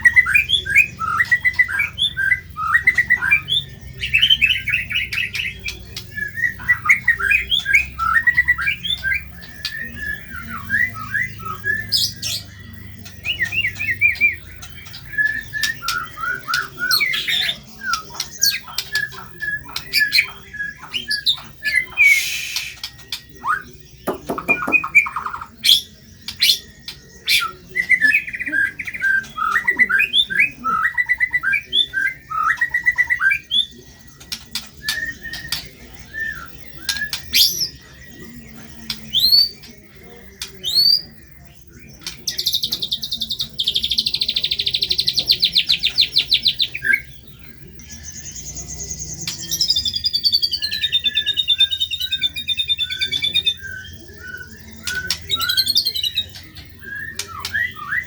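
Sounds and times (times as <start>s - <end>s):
songbird singing varied song: 0.0s - 58.0s.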